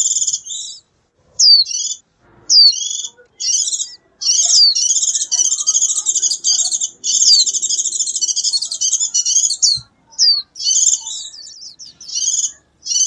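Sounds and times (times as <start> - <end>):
bird twittering song: 0.0 - 13.0.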